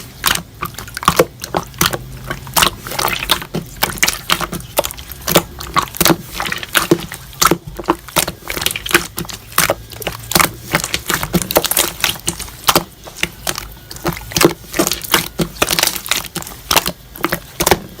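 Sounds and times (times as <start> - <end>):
slime squeezed with crackling pops: 0.0 - 18.0.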